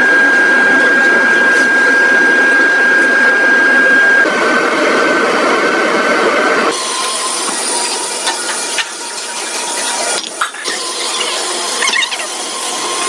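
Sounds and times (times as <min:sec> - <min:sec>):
industrial machinery whining: 0:00.0 - 0:13.0
machine with thin high whine: 0:00.0 - 0:13.0.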